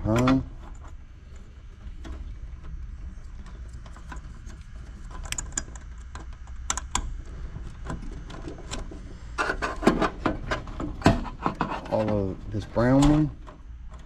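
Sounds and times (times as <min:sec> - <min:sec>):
clicks and rattles of wires: 0:00.0 - 0:14.0
steady low hum: 0:00.0 - 0:14.0.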